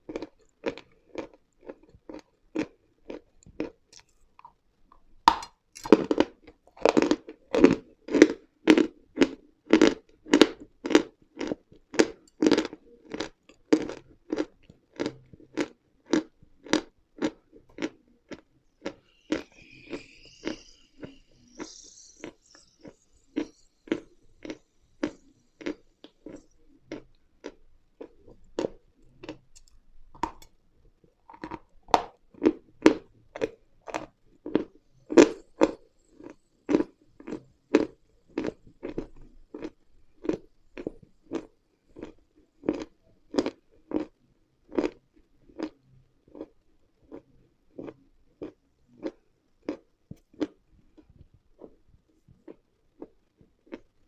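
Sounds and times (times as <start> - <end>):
crunching and chewing: 0.0 - 30.6, 31.2 - 54.0.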